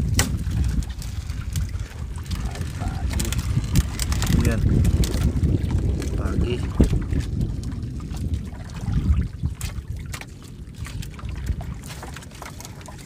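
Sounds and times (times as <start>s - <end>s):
water trickling and splashing: 0.0s - 13.0s
wind rumble on microphone: 0.0s - 13.0s.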